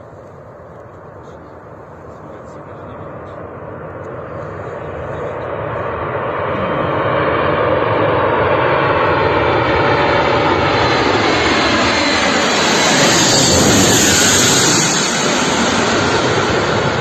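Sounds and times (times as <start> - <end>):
airplane flying past: 0.0 - 17.0.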